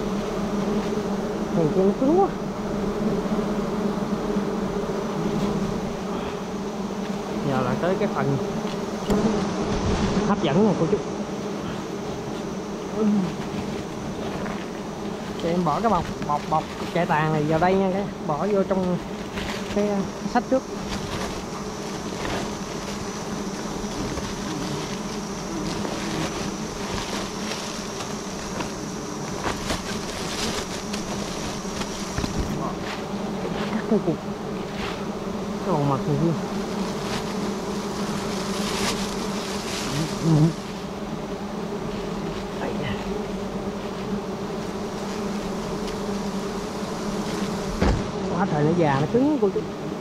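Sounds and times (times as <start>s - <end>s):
swarm of bees buzzing: 0.0s - 50.0s.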